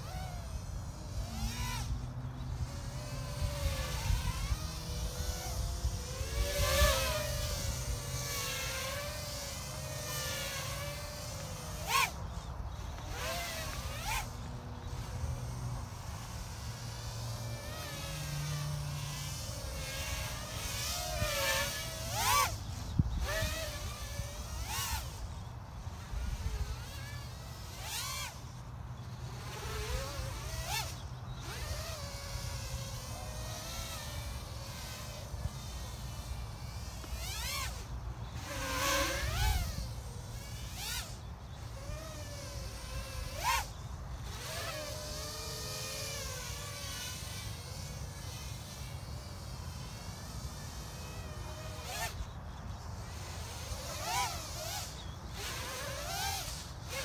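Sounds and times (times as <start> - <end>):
drone motors buzzing whine: 0.0 - 57.0.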